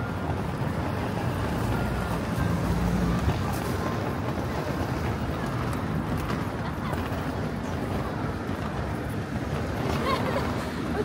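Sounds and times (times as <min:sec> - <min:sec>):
crowd noise: 0:00.0 - 0:11.0
traffic: 0:00.0 - 0:11.0.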